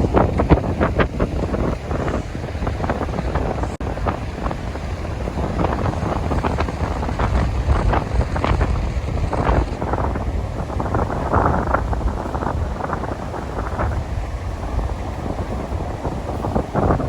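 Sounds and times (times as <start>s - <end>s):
sea surf washing: 0.0s - 17.0s
wind buffeting microphone: 0.0s - 17.0s.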